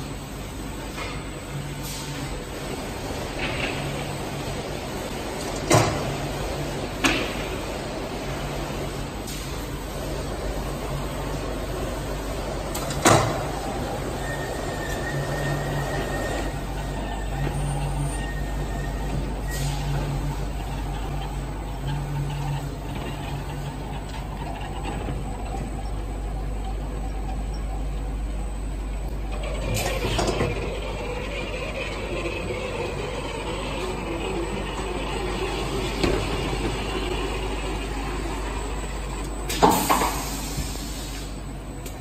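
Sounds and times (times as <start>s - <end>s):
conveyor machine noise: 0.0s - 42.0s.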